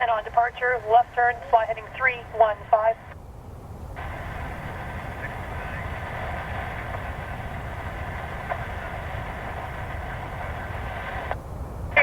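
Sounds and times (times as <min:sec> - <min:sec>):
radio hiss: 0:00.0 - 0:03.2, 0:03.9 - 0:12.0
low steady rumble: 0:00.0 - 0:12.0.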